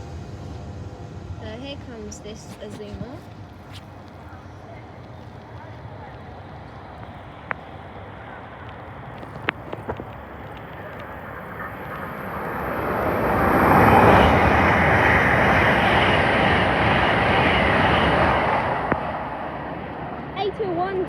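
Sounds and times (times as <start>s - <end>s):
train passing at speed: 0.0s - 21.0s.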